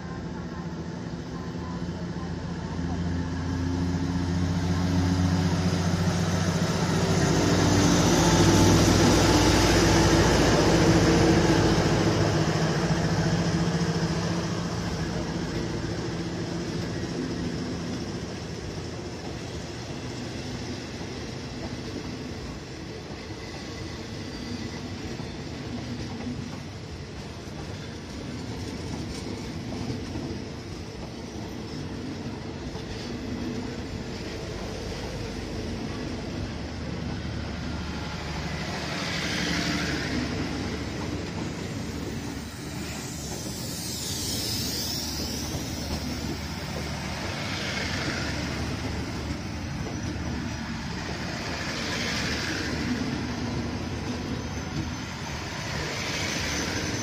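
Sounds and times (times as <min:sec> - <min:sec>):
diesel locomotive engine humming: 0:00.0 - 0:57.0
train wheels on rails: 0:00.2 - 0:57.0.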